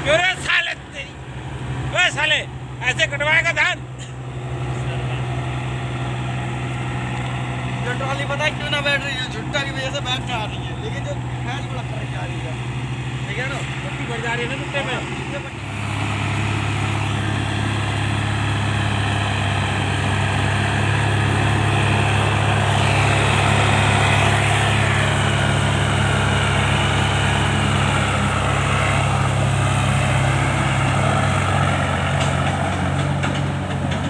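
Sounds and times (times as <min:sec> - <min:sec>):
tractor engine under heavy load: 0:00.0 - 0:34.0.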